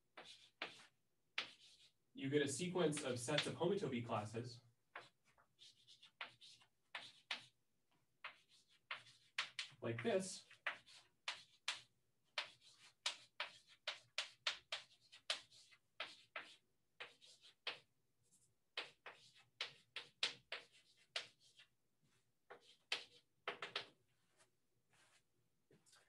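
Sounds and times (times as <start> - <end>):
chalk scratching on blackboard: 0.1 - 2.0, 2.9 - 3.6, 4.9 - 7.6, 8.2 - 25.2.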